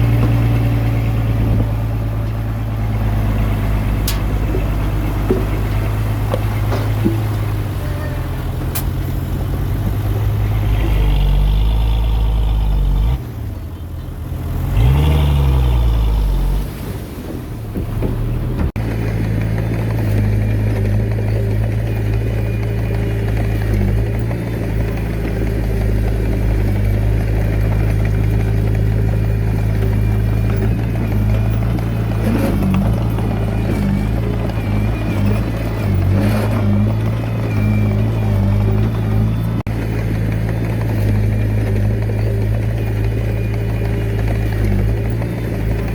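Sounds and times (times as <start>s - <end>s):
heavy diesel engine revving: 0.0s - 45.9s.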